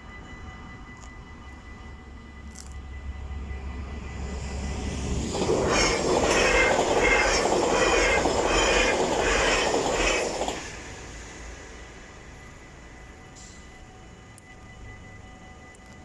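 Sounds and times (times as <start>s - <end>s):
train passing with wheel clatter: 0.0s - 16.0s.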